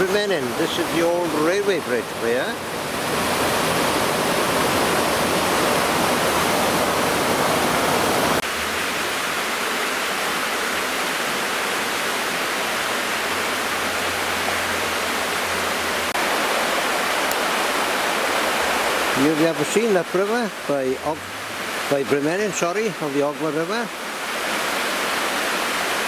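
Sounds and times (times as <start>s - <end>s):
river running over rocks: 0.0s - 26.0s.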